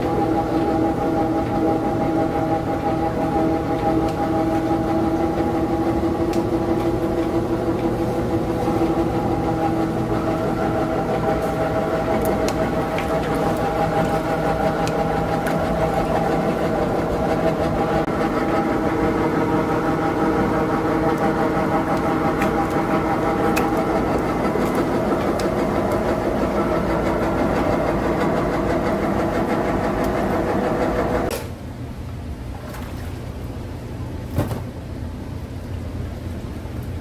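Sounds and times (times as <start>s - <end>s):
machinery droning: 0.0s - 31.3s.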